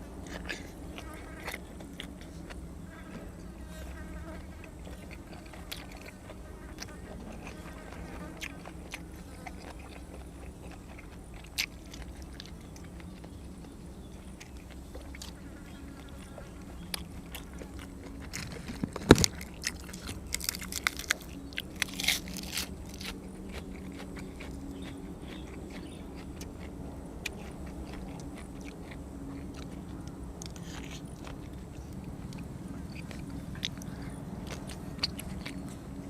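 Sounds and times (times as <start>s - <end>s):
chewing with crunchy bites: 0.0s - 36.0s.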